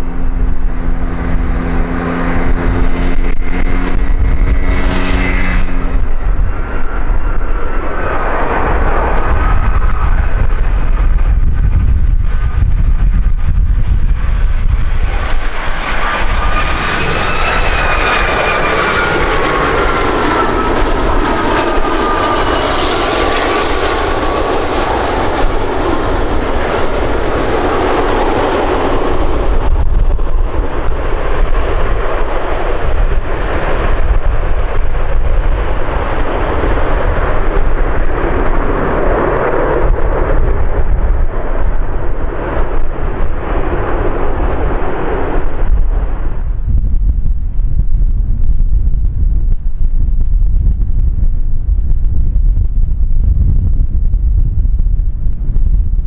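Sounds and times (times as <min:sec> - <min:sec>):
jet engine whine: 0:00.0 - 0:56.0
rushing rumble of plane rolling out: 0:00.0 - 0:56.0
wind buffeting microphone: 0:00.0 - 0:56.0.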